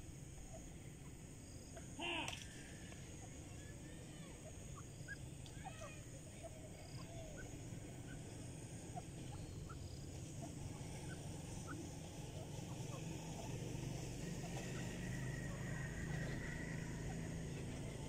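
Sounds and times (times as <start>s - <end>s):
birds chirping: 0.0s - 18.0s
steady low rumble: 2.8s - 18.0s.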